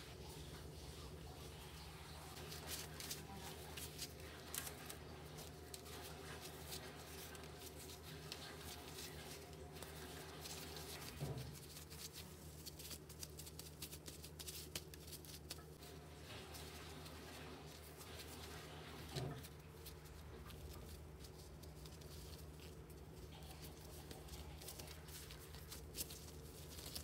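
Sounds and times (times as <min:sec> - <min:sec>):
hands handling sticky dough: 0:00.0 - 0:27.0.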